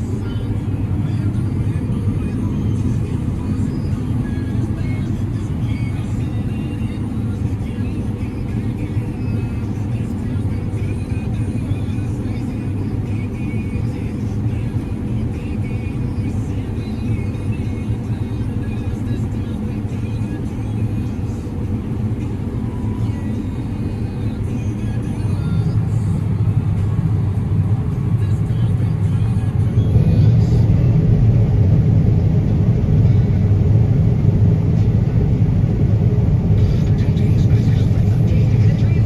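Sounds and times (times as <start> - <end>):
farm machinery engine rumbling: 0.0 - 39.0.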